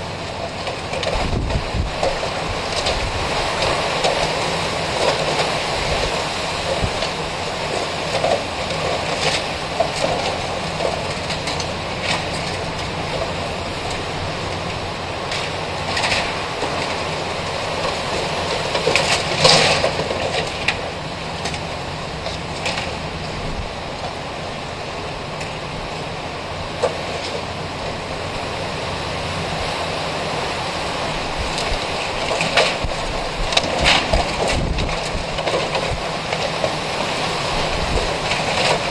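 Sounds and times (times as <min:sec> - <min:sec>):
strong storm wind: 0:00.0 - 0:38.9.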